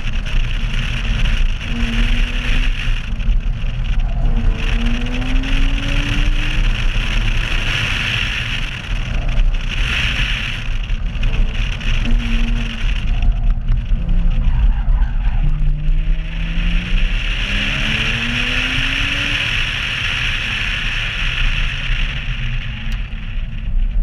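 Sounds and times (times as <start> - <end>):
car engine accelerating: 0.0 - 24.0
wind and road noise: 0.0 - 24.0.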